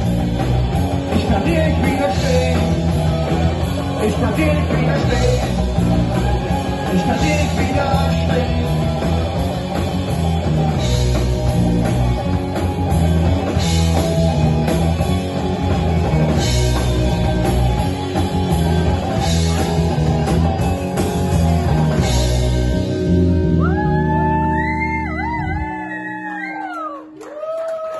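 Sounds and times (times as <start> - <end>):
live rock band playing: 0.0 - 27.4.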